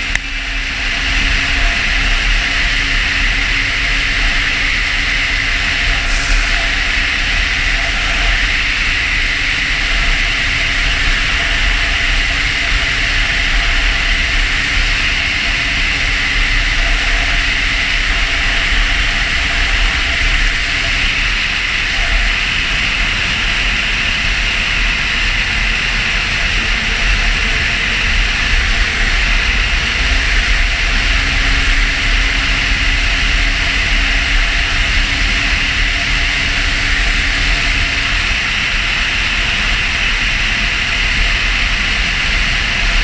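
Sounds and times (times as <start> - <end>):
snowmobile engine and track hiss: 0.0 - 43.0
wind rumble on microphone: 0.0 - 43.0.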